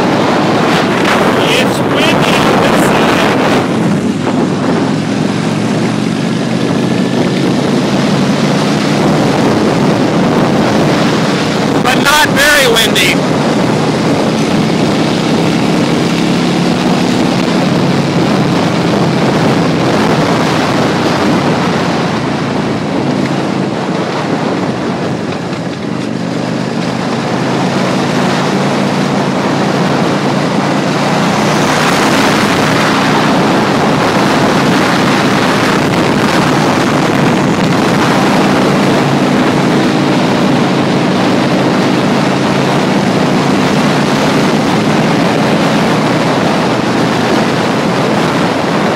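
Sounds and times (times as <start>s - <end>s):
motorcycle engine hum: 0.0s - 48.9s
wind rushing over microphone: 0.0s - 48.9s.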